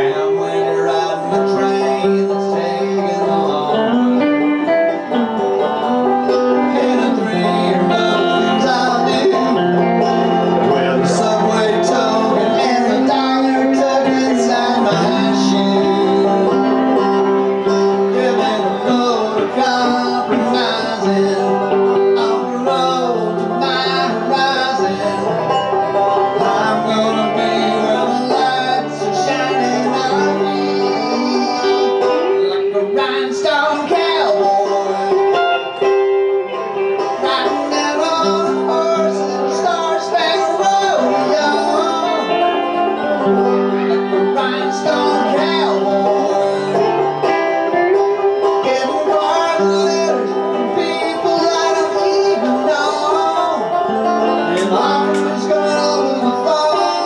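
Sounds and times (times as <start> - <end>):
banjo picking: 0.0 - 57.0
electric guitar: 0.0 - 57.0.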